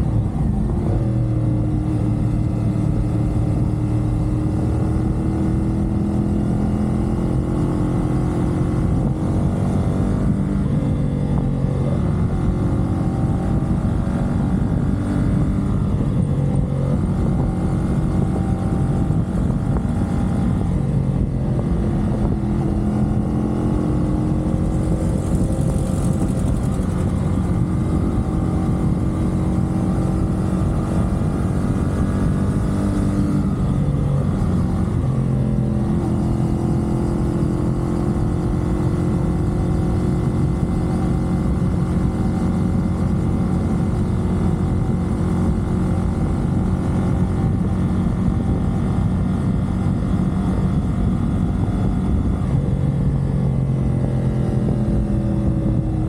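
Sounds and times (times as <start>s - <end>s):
motorcycle engine running: 0.0s - 56.0s
wind noise rushing: 8.0s - 56.0s.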